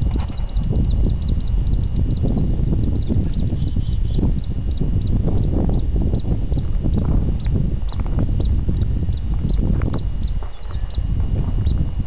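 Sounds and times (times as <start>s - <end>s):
small bird chirping: 0.0s - 12.0s
steady low rumble: 0.0s - 12.0s.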